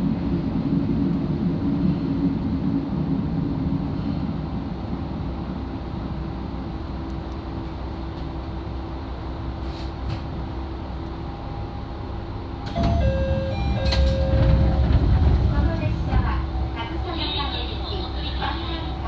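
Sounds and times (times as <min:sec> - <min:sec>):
railcar rumbling: 0:00.0 - 0:19.0.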